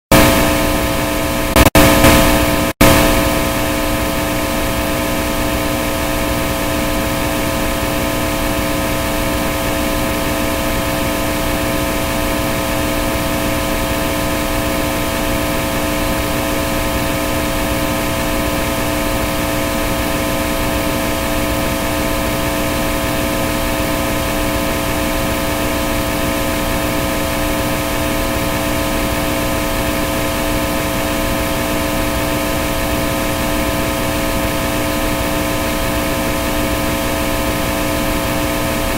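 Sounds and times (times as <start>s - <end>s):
steady humming tones: 0.2s - 38.9s.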